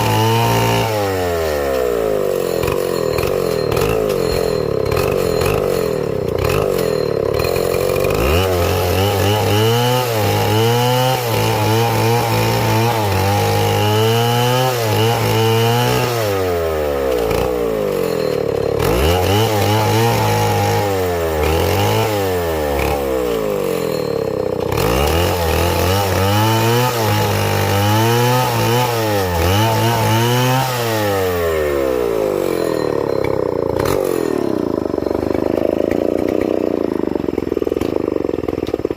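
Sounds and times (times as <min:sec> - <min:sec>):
chainsaw engine running hard: 0:00.0 - 0:38.9.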